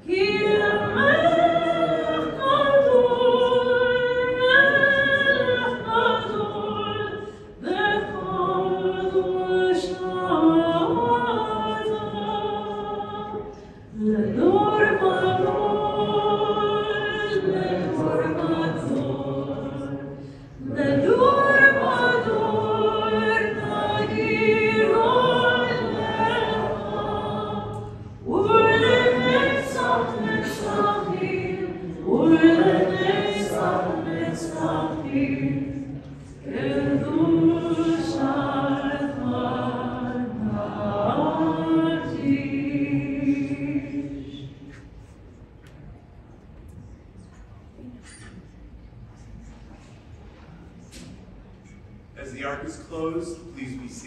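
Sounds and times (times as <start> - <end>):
voices singing a hymn: 0.0 - 44.9.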